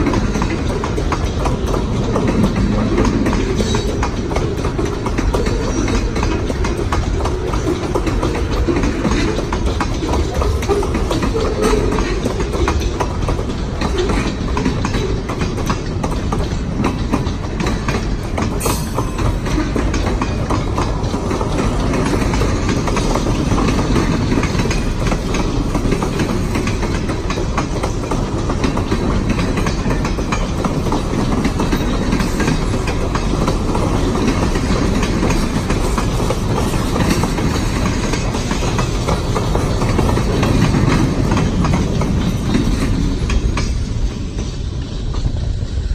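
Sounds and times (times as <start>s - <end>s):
train wheels rumbling on rail: 0.0s - 45.9s
wheels clicking over rail joints: 0.0s - 45.9s.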